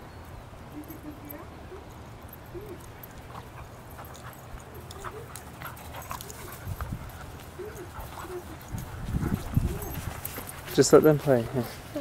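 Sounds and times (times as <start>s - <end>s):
dogs scuffling: 1.9s - 12.0s.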